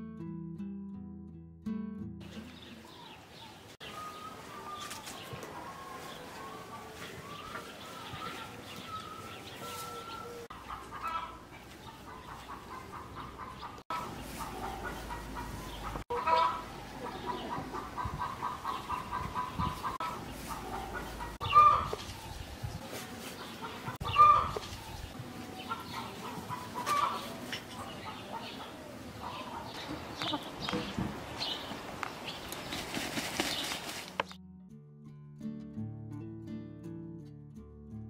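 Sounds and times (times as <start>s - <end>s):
chickens clucking: 2.2s - 34.4s.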